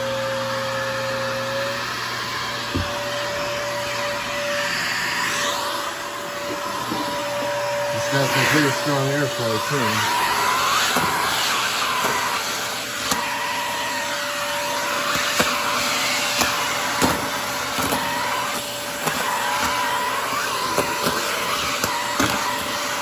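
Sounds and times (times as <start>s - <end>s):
vacuum cleaner suction airflow: 0.0s - 23.0s.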